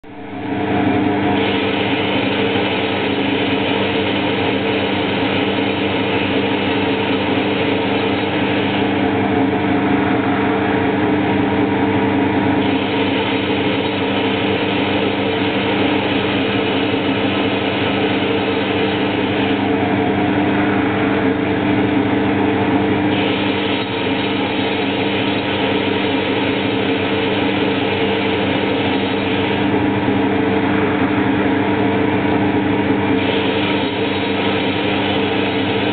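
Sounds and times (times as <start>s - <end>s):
dense mechanical machining noise: 0.0s - 35.9s
lathe motor hum: 0.0s - 35.9s.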